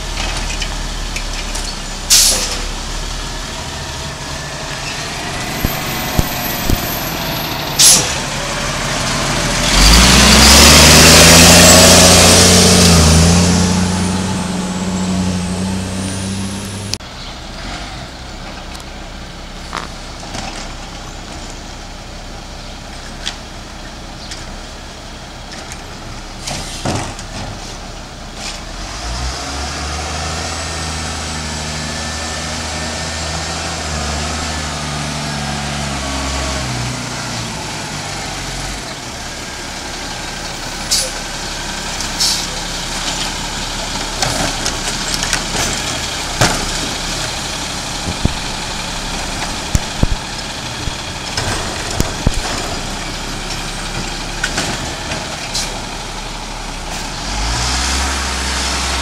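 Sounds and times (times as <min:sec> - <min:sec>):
garbage truck engine running: 0:00.0 - 0:29.0, 0:30.3 - 0:59.0.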